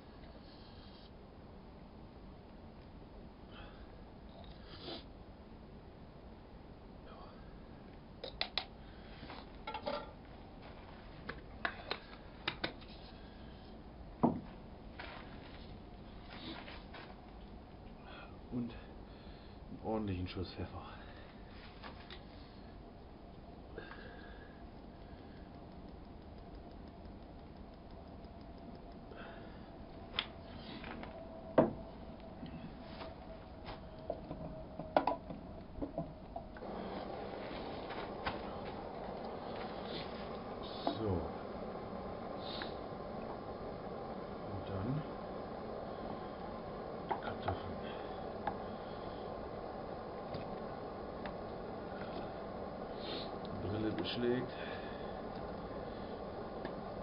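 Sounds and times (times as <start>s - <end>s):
gas stove hissing: 0.0s - 57.0s
steady background noise: 0.0s - 57.0s.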